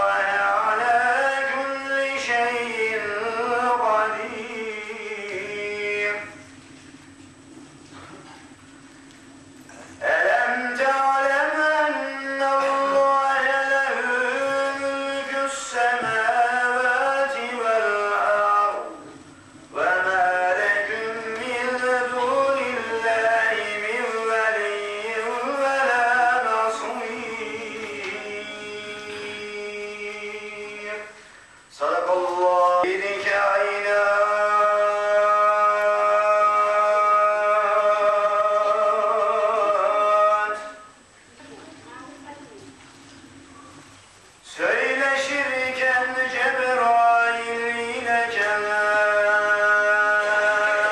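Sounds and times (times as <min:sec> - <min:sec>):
man chanting: 0:00.0 - 0:06.5, 0:10.0 - 0:41.0, 0:44.4 - 0:50.9.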